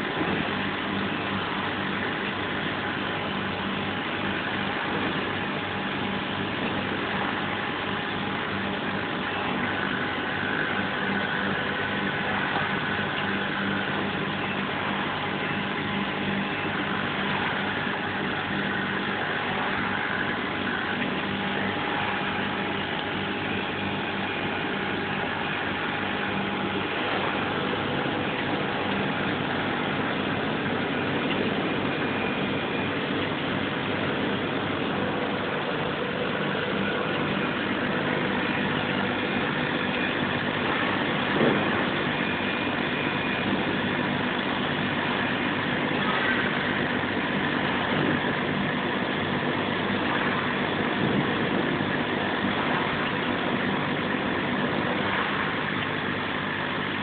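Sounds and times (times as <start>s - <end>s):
laser cutter humming and whirring: 0.0s - 57.0s.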